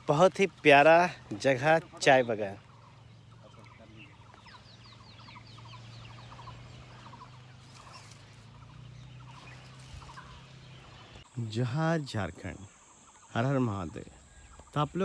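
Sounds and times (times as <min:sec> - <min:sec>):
birds calling faintly: 0:00.0 - 0:15.0.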